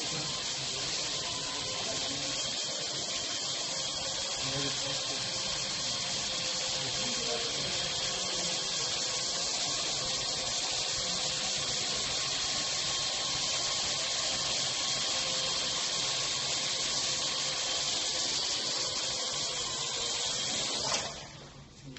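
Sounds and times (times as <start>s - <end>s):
drone rotors hissing: 0.0s - 21.5s
motor whine: 0.0s - 21.8s.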